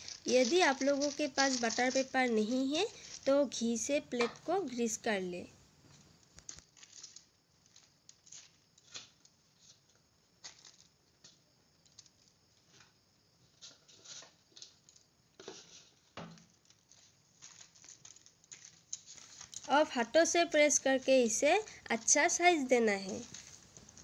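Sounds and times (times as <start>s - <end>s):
paper rustling and crinkling: 0.0s - 5.0s, 5.9s - 10.9s, 13.6s - 24.0s.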